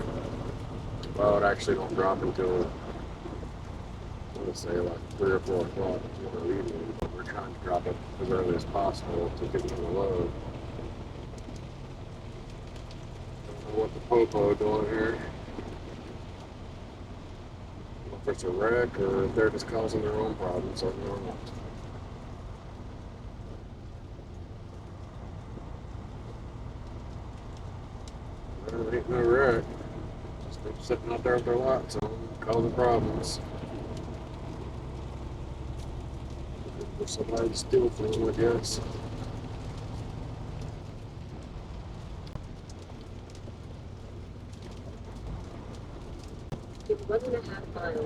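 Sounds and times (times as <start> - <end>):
rain hitting windshield: 0.0 - 48.0
road noise: 0.0 - 48.0
truck engine drone: 0.0 - 48.0.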